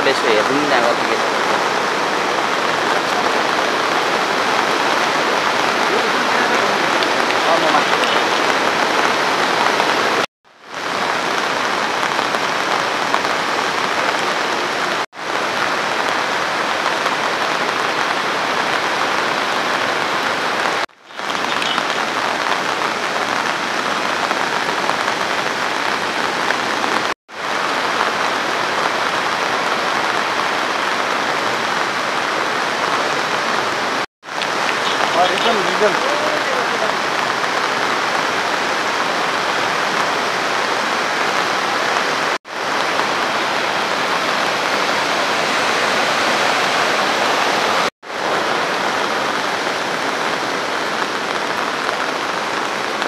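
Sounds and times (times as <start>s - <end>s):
steady rain pouring: 0.0s - 53.0s.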